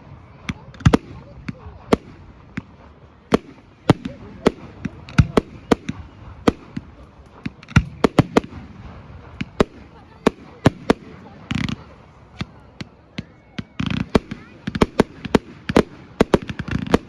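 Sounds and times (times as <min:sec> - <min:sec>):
background murmur: 0:00.0 - 0:17.0
fireworks bangs: 0:00.0 - 0:17.0.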